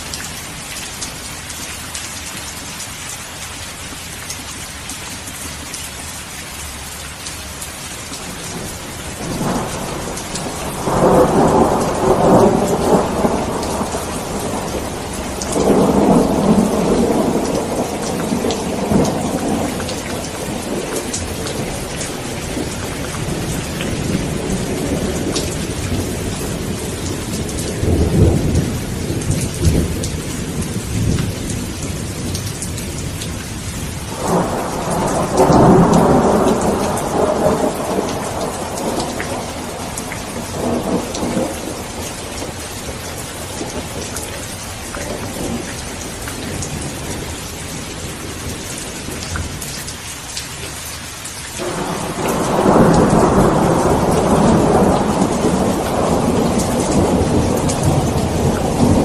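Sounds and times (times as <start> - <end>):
steady rain: 0.0 - 59.0
rolling thunder: 8.2 - 49.8, 51.6 - 59.0.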